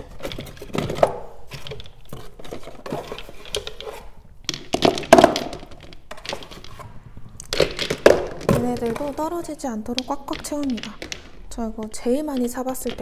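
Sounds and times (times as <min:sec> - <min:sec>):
small bottles clicking together: 0:00.0 - 0:13.0.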